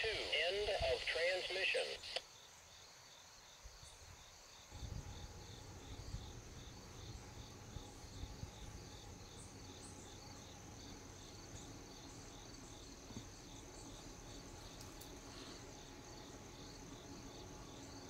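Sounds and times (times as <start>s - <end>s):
insects chirping: 0.2s - 18.0s.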